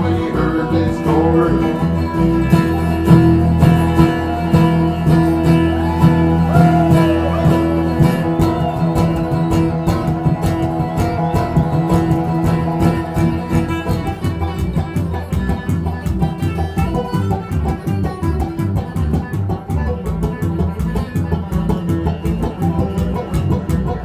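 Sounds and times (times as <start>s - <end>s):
bluegrass band playing: 0.0s - 24.0s.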